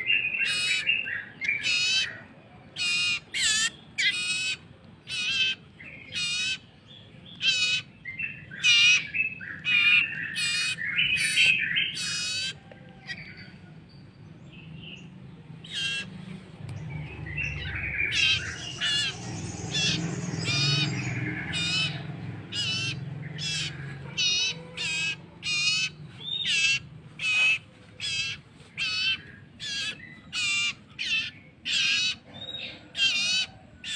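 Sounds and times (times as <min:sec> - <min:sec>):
bird chick begging chirps: 0:00.0 - 0:13.8, 0:15.0 - 0:33.9.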